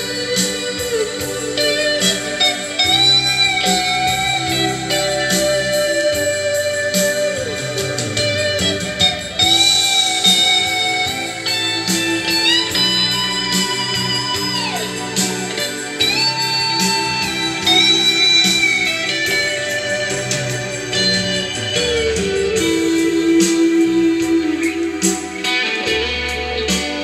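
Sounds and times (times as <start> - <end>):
guitar music over loudspeakers: 0.0 - 27.0.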